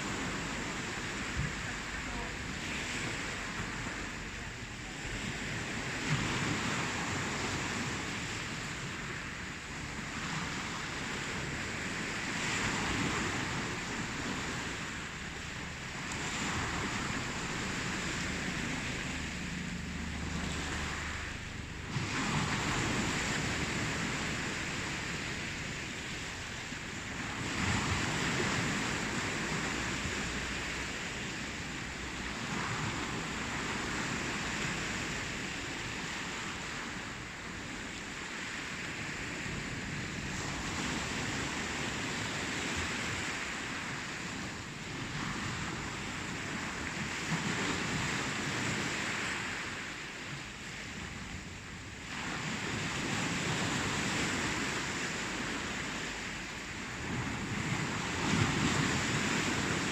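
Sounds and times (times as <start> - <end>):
ocean waves breaking ashore: 0.0 - 59.9.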